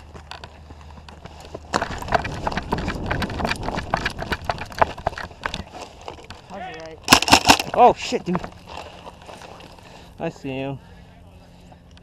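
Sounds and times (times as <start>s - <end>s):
running footsteps: 0.0s - 10.2s.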